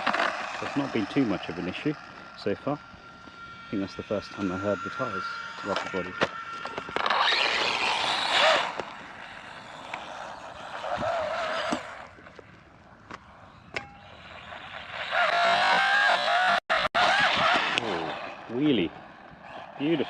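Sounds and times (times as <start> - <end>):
electric motor whining: 0.0 - 20.0
tyres on dirt and grass: 0.0 - 20.0.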